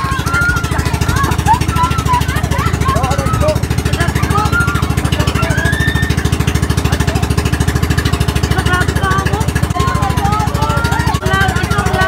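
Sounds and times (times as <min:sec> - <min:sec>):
small boat engine thumping: 0:00.0 - 0:12.0.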